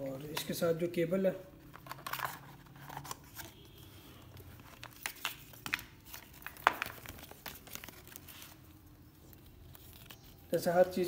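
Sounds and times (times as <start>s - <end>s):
paper and cardboard rustling: 1.6s - 11.0s
sharp paper crackle: 2.0s - 11.0s.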